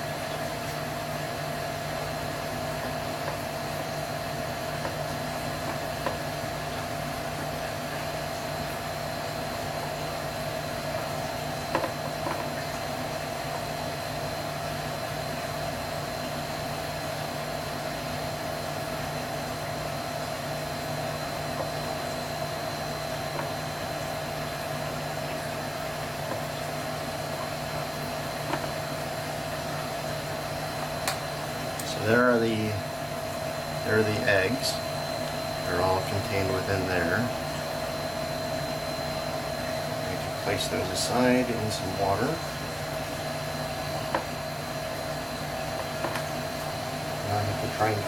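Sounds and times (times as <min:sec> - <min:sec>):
machine hum and whir: 0:00.0 - 0:48.0.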